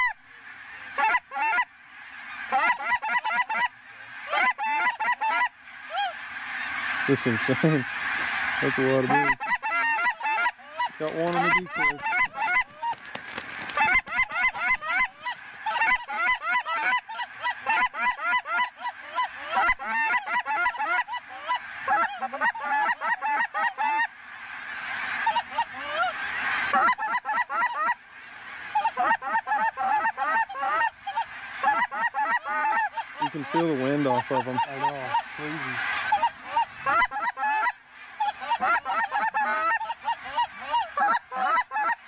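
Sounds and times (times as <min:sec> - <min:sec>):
flock of geese honking: 0:00.0 - 0:42.0.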